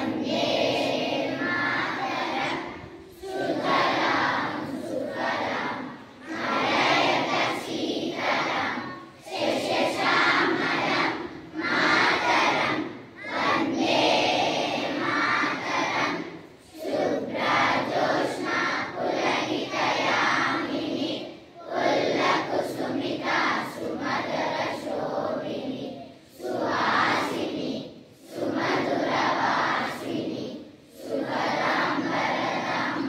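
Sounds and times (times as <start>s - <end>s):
children singing in unison: 0.0s - 33.0s.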